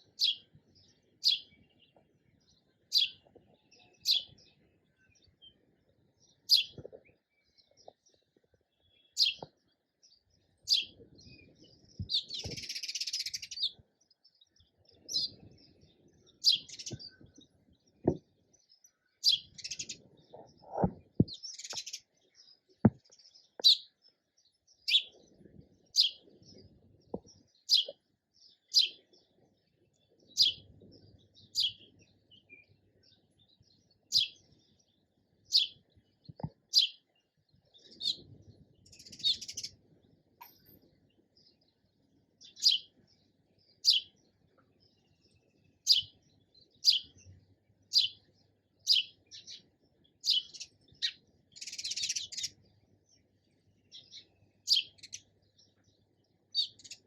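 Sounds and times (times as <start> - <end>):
sparrow chirping: 0.0 - 57.0.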